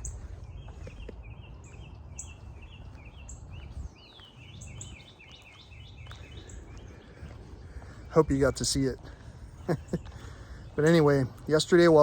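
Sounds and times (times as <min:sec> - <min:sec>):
wind rumble on microphone: 0:00.0 - 0:11.6
small birds chirping: 0:00.0 - 0:12.0.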